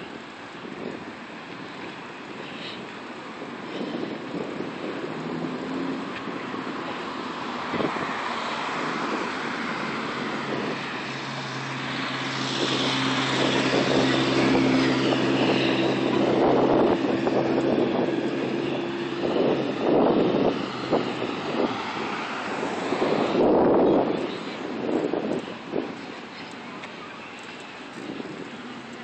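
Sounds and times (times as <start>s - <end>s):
steady engine hum: 0.0s - 29.0s
wind noise on microphone: 0.0s - 29.0s.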